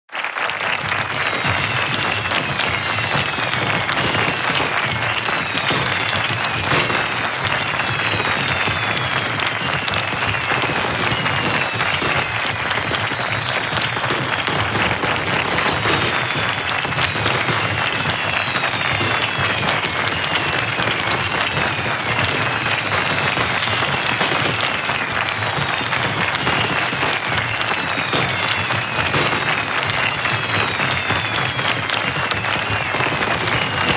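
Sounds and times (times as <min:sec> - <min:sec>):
crowd applauding: 0:00.0 - 0:33.9
whistles sliding down in pitch: 0:00.9 - 0:33.9.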